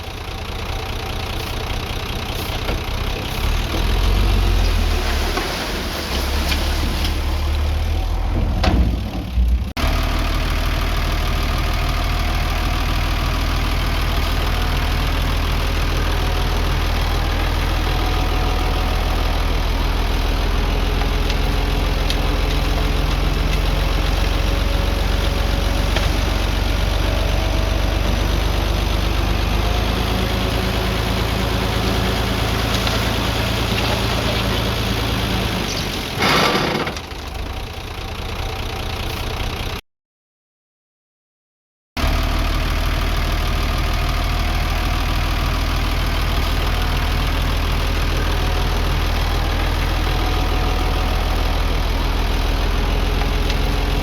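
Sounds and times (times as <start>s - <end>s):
heavy diesel engine running: 0.0s - 39.8s, 42.0s - 54.0s.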